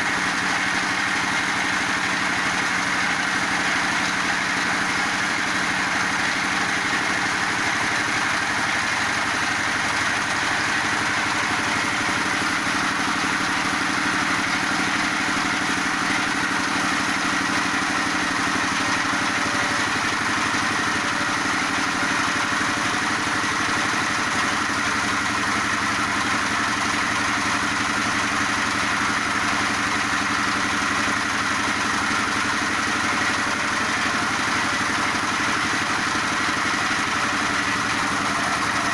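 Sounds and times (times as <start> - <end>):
pellet machine humming and whirring: 0.0 - 38.9.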